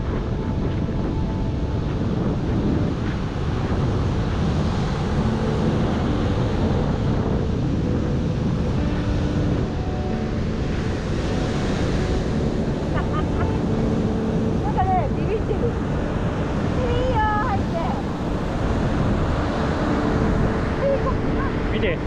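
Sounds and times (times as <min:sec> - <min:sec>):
surf breaking on beach: 0:00.0 - 0:22.0
wind buffeting microphone: 0:00.0 - 0:22.0.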